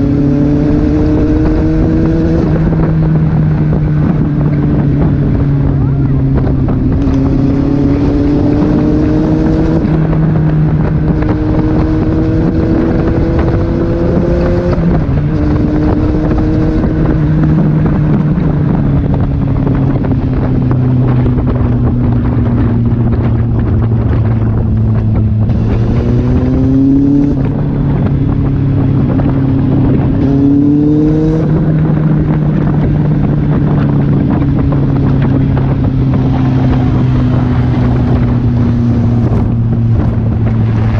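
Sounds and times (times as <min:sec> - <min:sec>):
motorcycle engine revving: 0:00.0 - 0:40.9
wind on microphone: 0:00.0 - 0:40.9.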